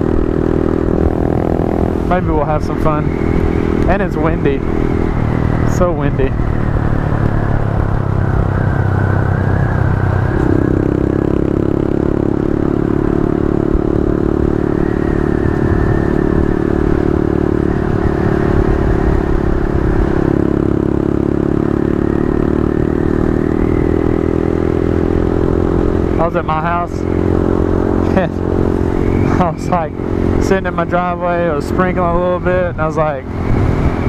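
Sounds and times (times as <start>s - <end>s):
wind noise: 0.0s - 26.2s, 27.0s - 34.0s
motorcycle engine running: 0.0s - 34.0s.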